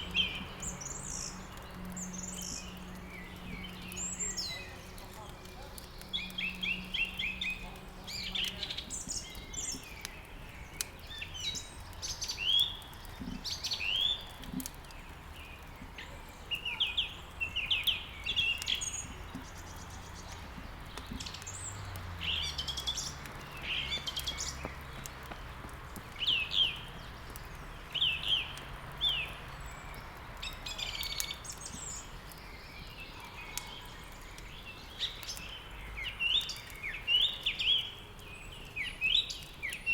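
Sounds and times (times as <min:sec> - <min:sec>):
songbirds chirping: 0:00.0 - 0:39.9
wood fire crackling: 0:00.0 - 0:39.9.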